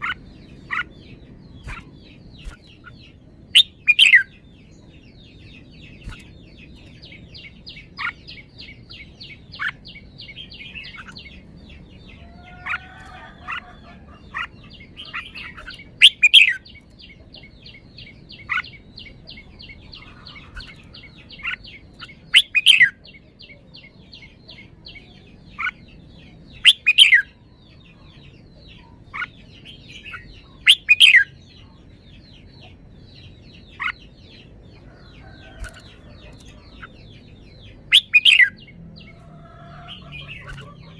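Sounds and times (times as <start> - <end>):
bird chirps: 0.0 - 40.9
bird singing: 0.0 - 40.9.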